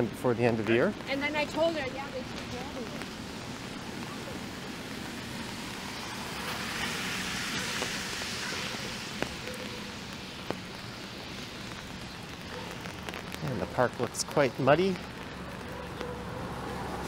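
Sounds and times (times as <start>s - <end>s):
car tyres swishing on wet road: 0.0s - 17.0s
rain hiss on street: 0.0s - 17.0s.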